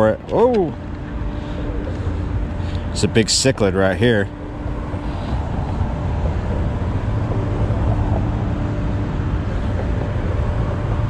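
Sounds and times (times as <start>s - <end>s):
faint engine hum: 0.0s - 11.0s
low rumble of road traffic: 0.0s - 11.0s.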